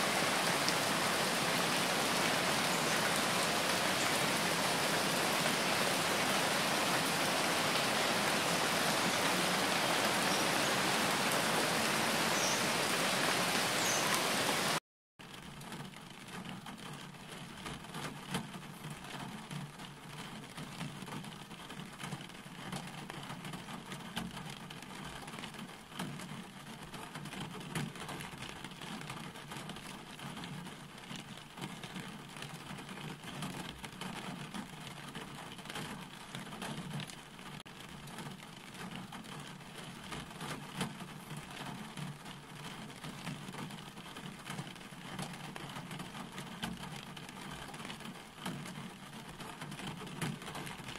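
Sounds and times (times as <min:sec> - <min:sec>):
rain on road and leaves: 0:00.0 - 0:50.9.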